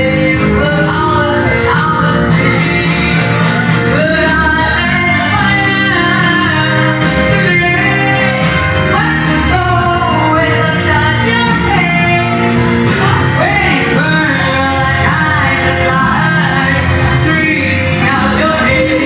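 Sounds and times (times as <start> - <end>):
instrumental backing chords and bass: 0.0 - 19.0
person singing a pop ballad: 0.0 - 19.0.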